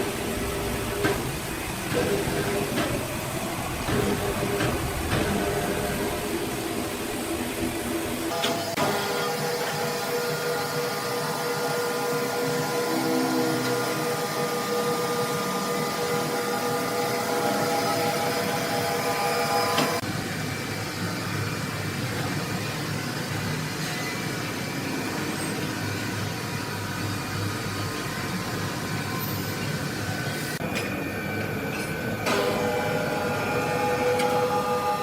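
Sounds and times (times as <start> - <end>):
sawmill machinery running: 0.0 - 35.0.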